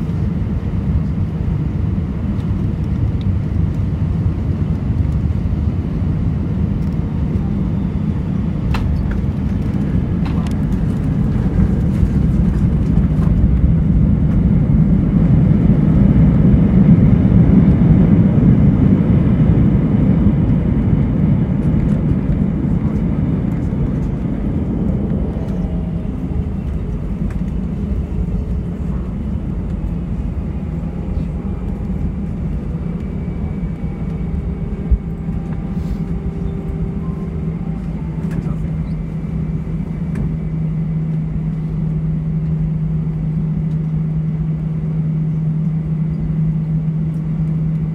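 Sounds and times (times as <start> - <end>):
airplane cabin rumble: 0.0 - 47.9
steady engine tones: 0.0 - 47.9.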